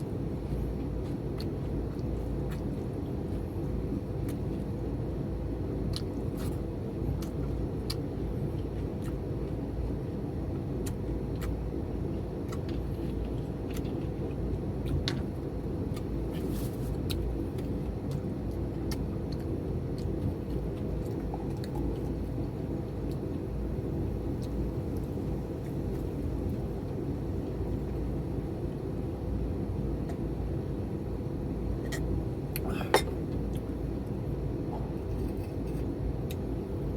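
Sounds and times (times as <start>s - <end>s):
steady low rumble: 0.0s - 36.9s.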